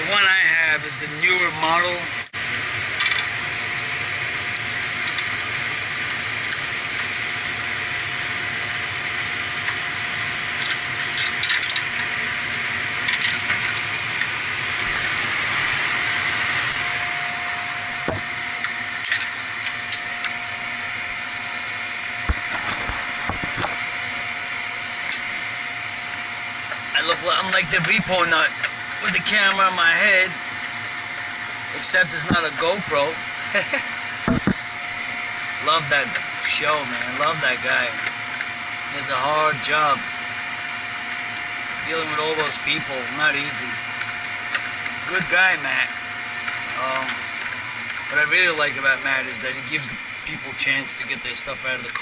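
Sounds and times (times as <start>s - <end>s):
hiss and hum of equipment: 0.0s - 52.0s.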